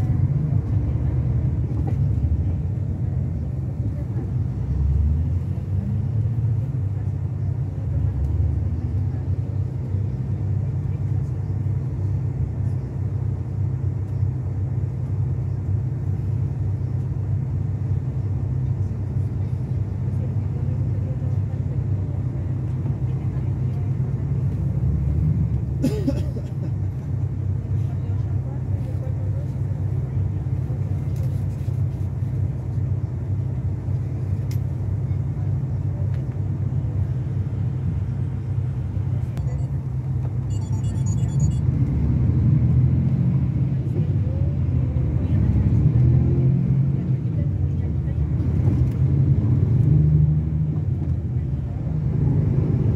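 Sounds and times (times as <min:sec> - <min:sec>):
diesel engine low drone: 0:00.0 - 0:52.9.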